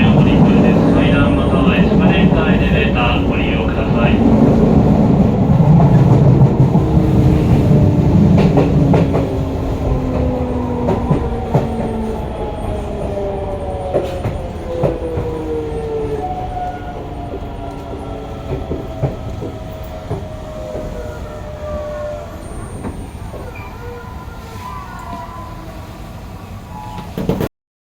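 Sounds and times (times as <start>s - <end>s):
rail joint clicks: 0.0s - 25.4s
electric train inverter whining: 0.0s - 27.2s
train wheel rumble: 0.0s - 27.5s.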